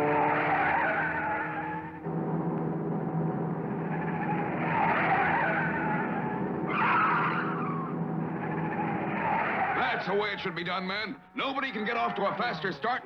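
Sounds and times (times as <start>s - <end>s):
race car engine running: 0.0s - 13.0s
tires screeching: 0.0s - 13.0s.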